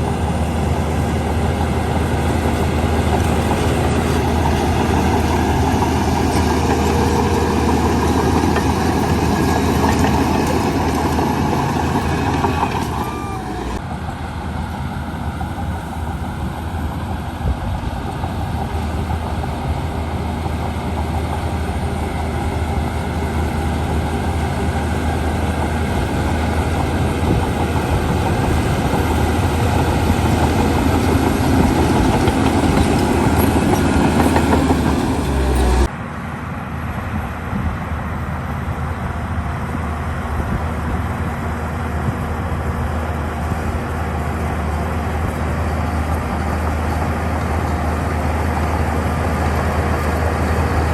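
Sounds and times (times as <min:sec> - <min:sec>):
diesel engines running: 0:00.0 - 0:50.9.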